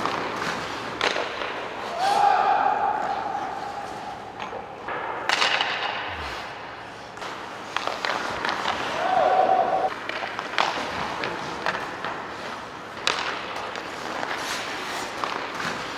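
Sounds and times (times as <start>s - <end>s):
puck striking pads: 0.0s - 1.9s, 2.9s - 9.1s, 9.8s - 15.9s
skates scraping ice: 0.0s - 15.9s.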